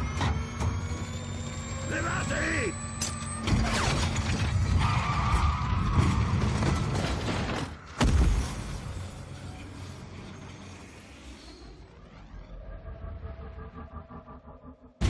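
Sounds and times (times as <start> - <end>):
racing car engines: 0.0 - 8.0, 8.6 - 15.0.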